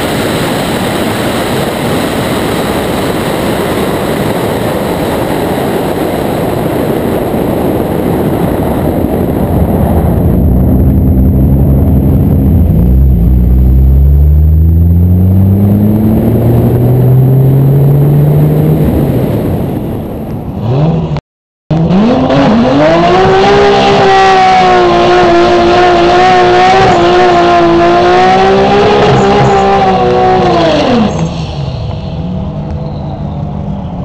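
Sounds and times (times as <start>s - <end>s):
car engine revving: 0.0s - 32.7s.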